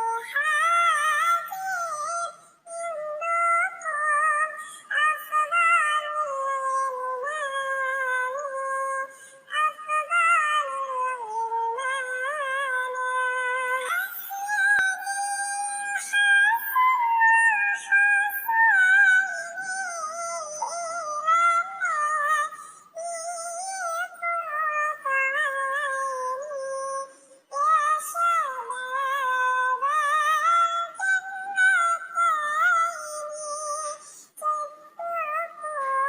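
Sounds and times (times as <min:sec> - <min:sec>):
high synthetic singing voice: 0:00.0 - 0:36.0.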